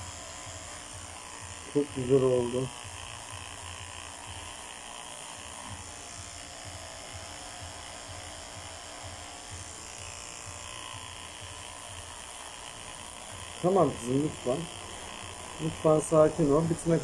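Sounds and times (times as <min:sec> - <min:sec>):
electric hair clipper buzzing: 0:00.0 - 0:17.0.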